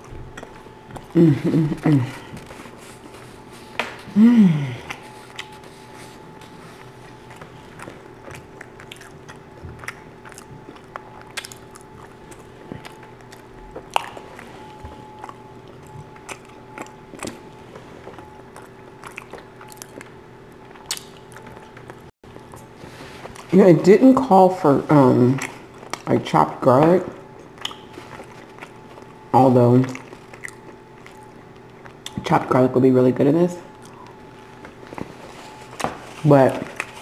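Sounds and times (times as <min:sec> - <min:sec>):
chewing bread: 0:00.0 - 0:32.6, 0:33.6 - 0:37.0
faint electrical hum: 0:00.0 - 0:37.0.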